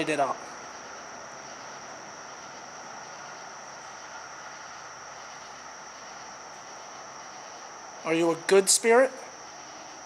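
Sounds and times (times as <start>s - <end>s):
background hiss: 0.0s - 10.0s
high-pitched whine: 0.0s - 10.0s.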